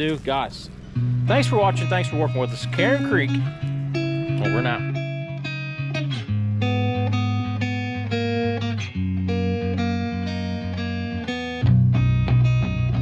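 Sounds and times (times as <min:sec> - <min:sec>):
plucked guitar notes: 0:00.0 - 0:13.0
steady bass line: 0:00.0 - 0:13.0.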